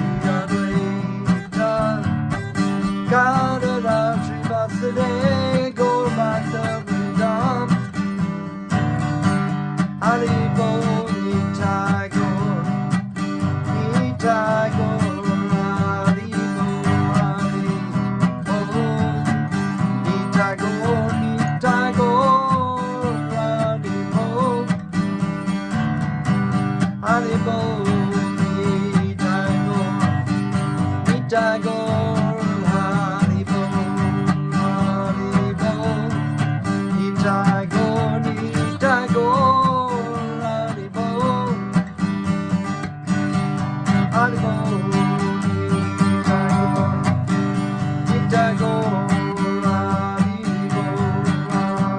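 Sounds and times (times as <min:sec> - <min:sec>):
acoustic guitar strumming: 0:00.0 - 0:51.9
guitar melody line bending: 0:00.0 - 0:51.9.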